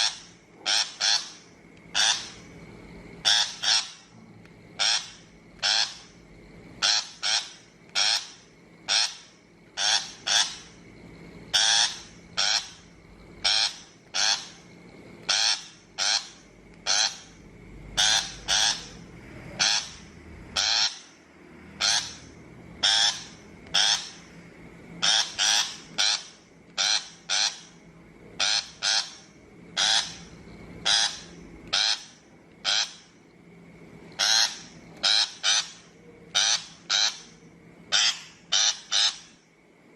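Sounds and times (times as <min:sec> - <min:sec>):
bird harsh rasping calls: 0:00.0 - 0:02.5, 0:03.2 - 0:04.1, 0:04.8 - 0:06.2, 0:06.8 - 0:10.8, 0:11.5 - 0:21.2, 0:21.8 - 0:24.3, 0:25.0 - 0:27.8, 0:28.4 - 0:33.2, 0:34.2 - 0:39.4.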